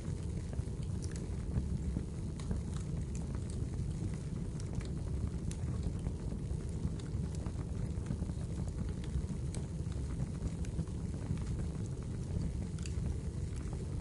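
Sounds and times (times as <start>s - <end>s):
fire popping and snapping: 0.0s - 14.0s
low rumble of flames: 0.0s - 14.0s.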